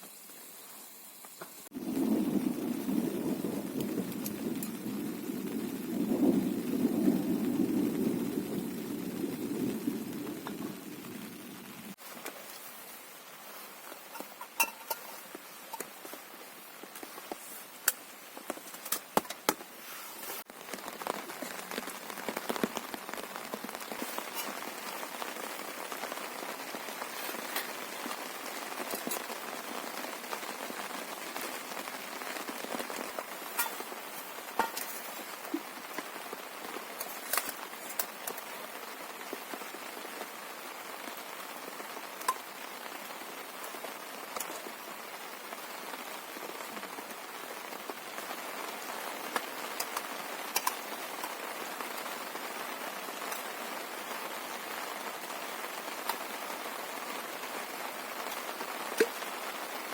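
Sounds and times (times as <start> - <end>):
sharp raindrop impacts: 1.2 - 59.9
heavy rain falling: 1.4 - 59.9.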